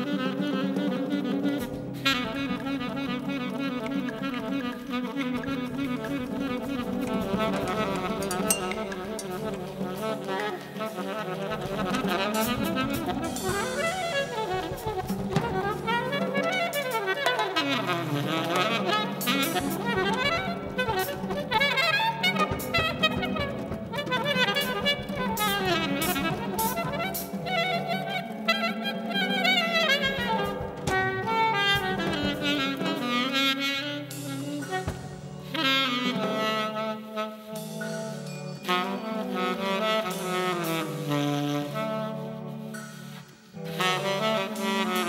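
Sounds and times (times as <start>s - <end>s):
drums and cymbal strikes: 0.0s - 27.7s, 29.9s - 45.0s
saxophone playing runs: 0.0s - 45.0s.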